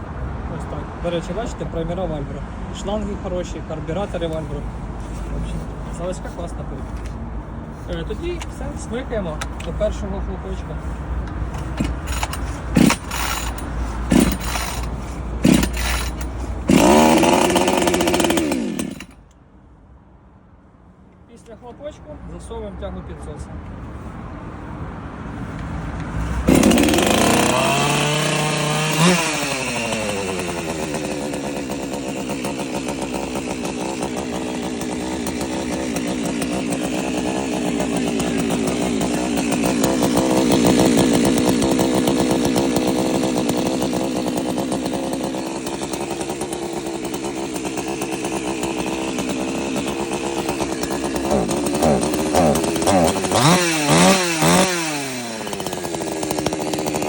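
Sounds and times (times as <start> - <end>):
chainsaw engine revving: 2.8 - 7.1, 7.7 - 19.3, 26.0 - 57.0.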